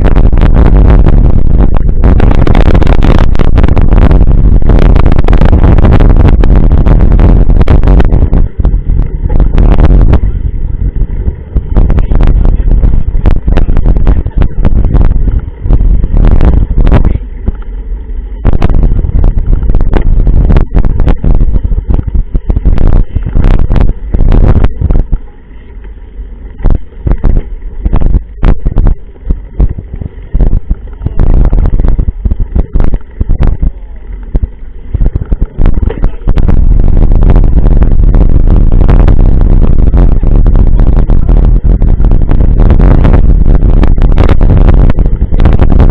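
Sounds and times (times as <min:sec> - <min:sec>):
wind rumble on microphone: 0:00.0 - 0:45.9.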